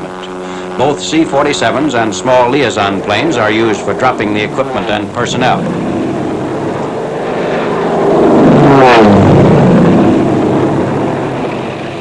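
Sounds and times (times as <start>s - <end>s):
propeller airplane flying overhead: 0.0s - 12.0s.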